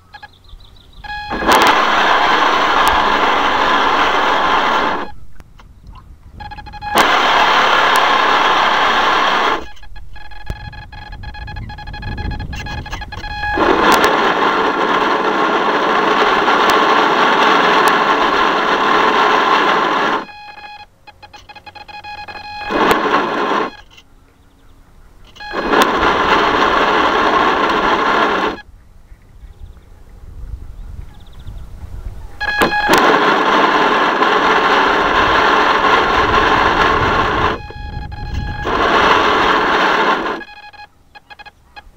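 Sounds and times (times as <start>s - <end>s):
small motor running: 1.0s - 5.2s, 6.4s - 24.0s, 25.3s - 28.6s, 32.4s - 41.8s.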